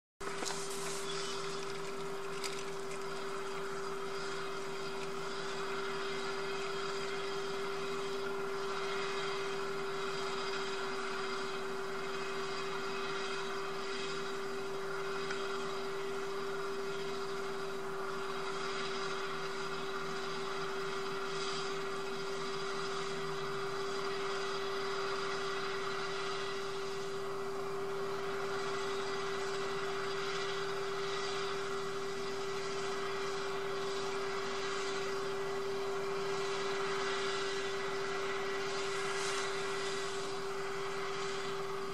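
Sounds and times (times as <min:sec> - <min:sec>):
faint hiss: 0:00.2 - 0:41.9
steady hum: 0:00.2 - 0:41.9.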